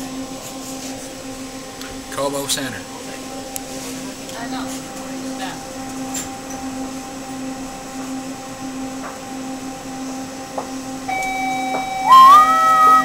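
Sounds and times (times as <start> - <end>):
rising train whine: 0.0 - 13.0
train motor humming: 0.0 - 13.0.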